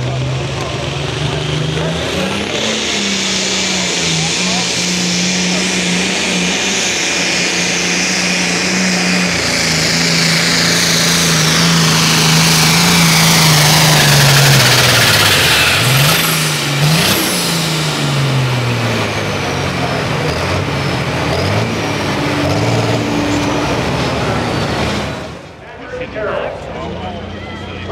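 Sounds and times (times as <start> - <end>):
tractor engine at full throttle: 0.0 - 27.9
turbo whine: 1.2 - 27.8.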